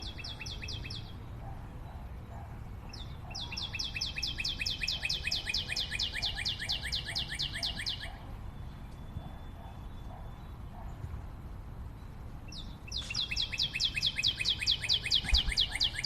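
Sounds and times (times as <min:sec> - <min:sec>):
bird chirping in fast runs: 0:01.9 - 0:11.4, 0:12.0 - 0:16.0.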